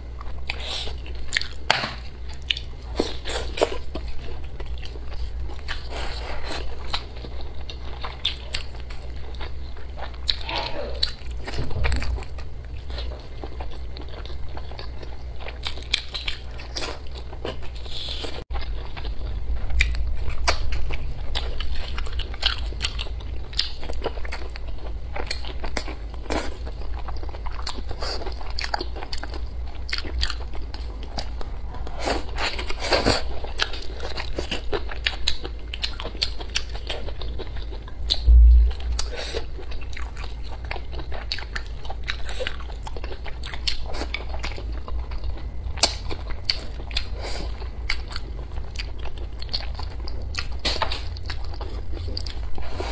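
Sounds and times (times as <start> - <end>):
chewing and biting food: 0.0 - 52.9
steady low hum: 0.0 - 52.9.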